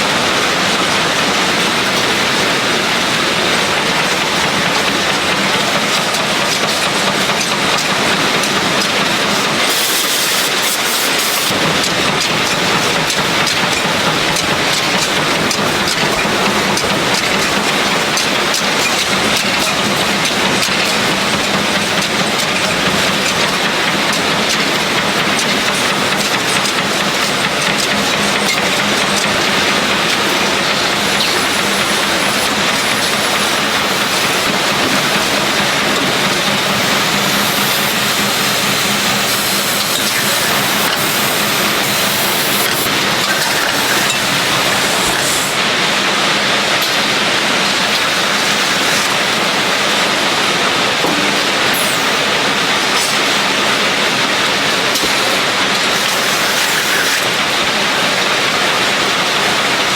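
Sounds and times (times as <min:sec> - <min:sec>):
machinery clatter and hiss: 0:00.0 - 0:59.9.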